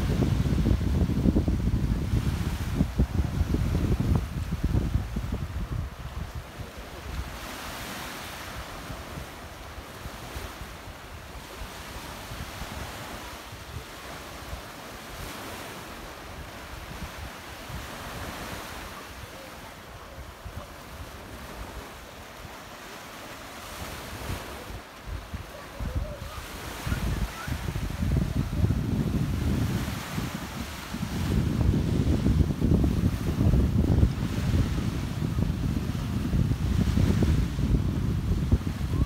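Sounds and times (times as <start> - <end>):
wind buffeting microphone: 0.0 - 22.7, 23.5 - 39.0
sea waves washing onto shore: 0.0 - 39.0.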